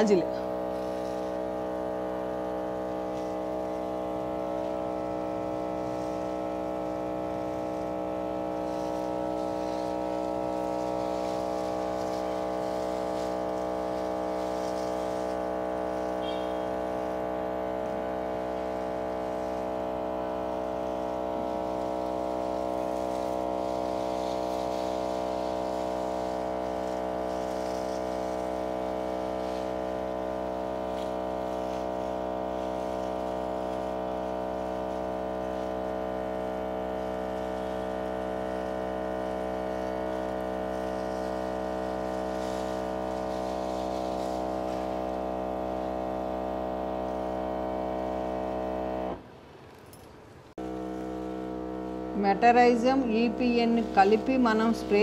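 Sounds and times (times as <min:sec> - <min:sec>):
sprayer pump humming: 0:00.0 - 0:49.2, 0:50.6 - 0:55.0.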